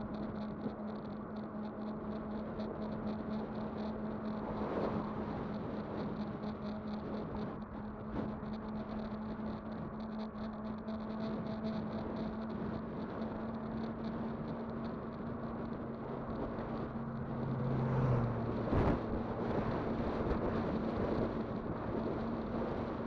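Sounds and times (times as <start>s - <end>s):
low hum: 0.0s - 23.0s
tyre and wind noise: 0.0s - 23.0s.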